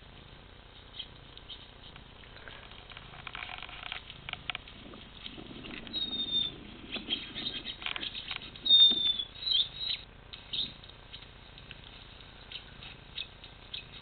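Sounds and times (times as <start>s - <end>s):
scratchy ticks and rustling: 0.0s - 14.0s
small birds chirping: 0.6s - 2.6s, 4.1s - 14.0s.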